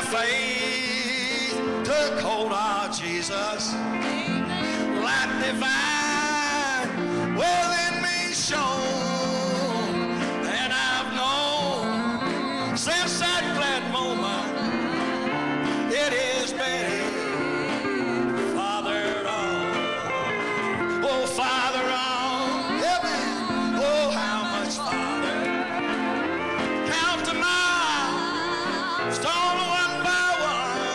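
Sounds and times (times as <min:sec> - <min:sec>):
man singing gospel song: 0:00.0 - 0:30.9
piano accompaniment: 0:00.0 - 0:30.9.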